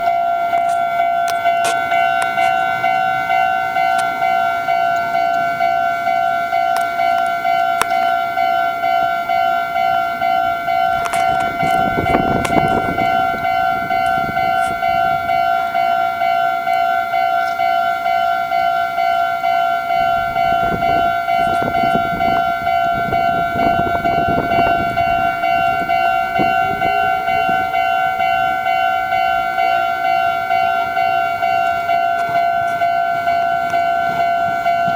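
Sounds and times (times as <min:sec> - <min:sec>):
level-crossing alarm clanging: 0:00.0 - 0:34.9
train wheels rumbling past: 0:00.0 - 0:34.9.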